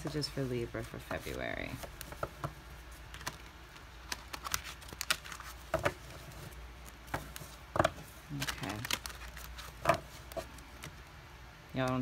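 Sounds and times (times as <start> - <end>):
cards being shuffled: 0.0 - 11.2.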